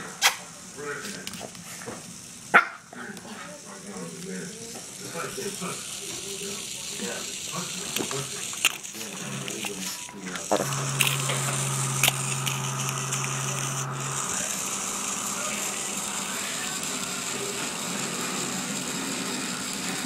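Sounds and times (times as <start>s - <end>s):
vibrating toy robot buzzing: 0.0s - 20.0s.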